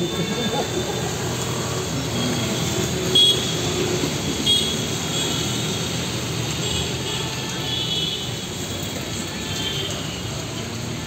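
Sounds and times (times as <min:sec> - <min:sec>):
heavy rain: 0:00.0 - 0:11.0
vehicles passing on wet road: 0:00.0 - 0:11.0.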